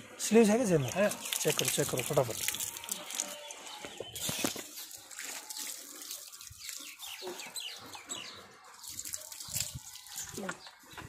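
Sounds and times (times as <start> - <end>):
small birds chirping: 0.4 - 11.0.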